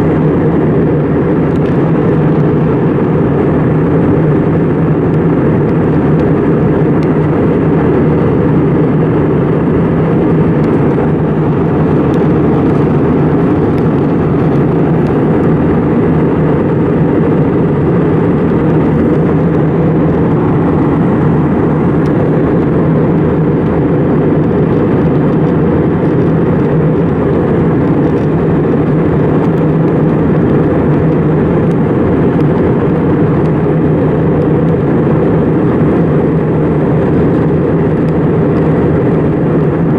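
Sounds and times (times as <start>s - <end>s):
airplane cabin noise: 0.0s - 39.9s.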